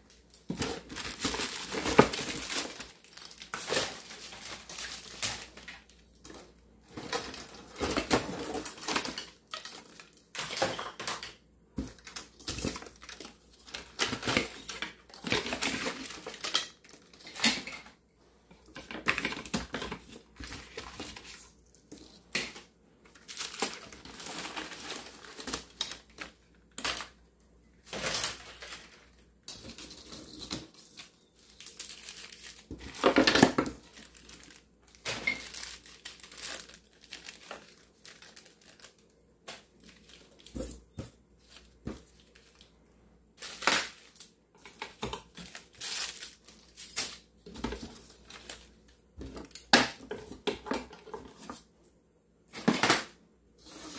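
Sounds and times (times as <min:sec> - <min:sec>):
small plastic items rattling and crinkling: 0:00.0 - 0:51.7.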